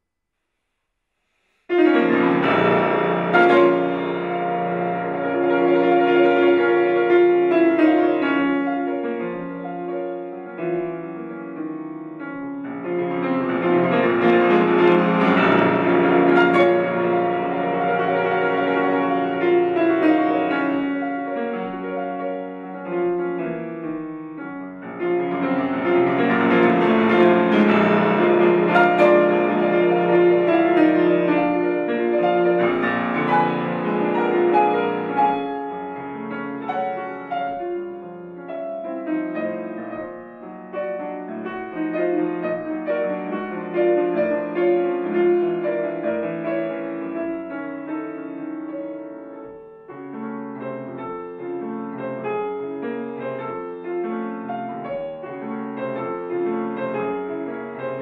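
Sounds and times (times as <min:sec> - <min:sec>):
solo grand piano classical music: 0:01.6 - 0:58.0.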